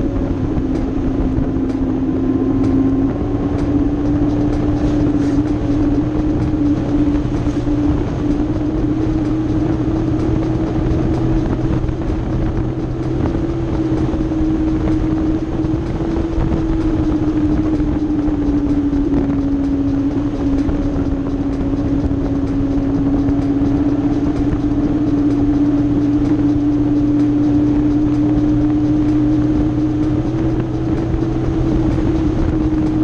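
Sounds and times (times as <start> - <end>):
motorcycle engine drone: 0.0 - 33.0
wind and road noise: 0.0 - 33.0.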